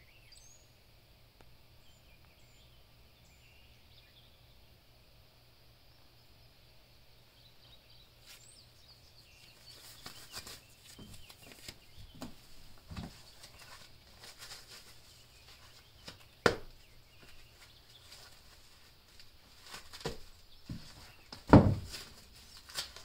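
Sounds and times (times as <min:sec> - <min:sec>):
faint outdoor ambience: 0:00.0 - 0:23.0.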